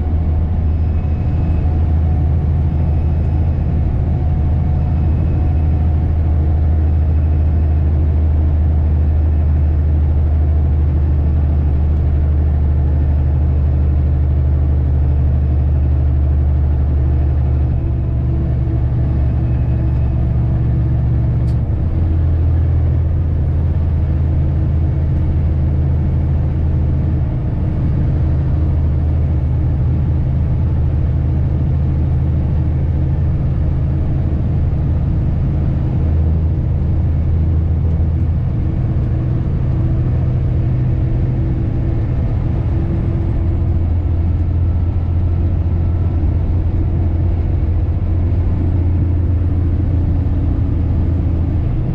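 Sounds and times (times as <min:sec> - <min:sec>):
truck diesel engine droning: 0:00.0 - 0:51.9.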